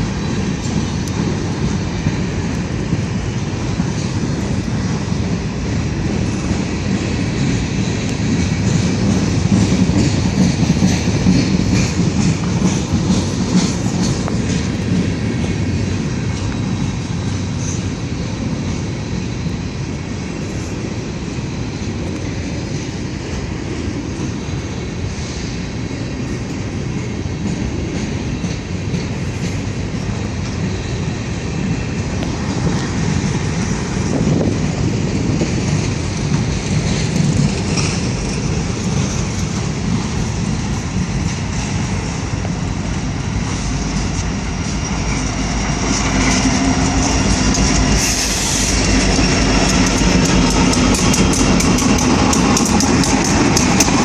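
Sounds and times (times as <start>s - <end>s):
freight train wheels rumbling: 0.0s - 54.0s
wheels clickety-clack over joints: 0.0s - 54.0s.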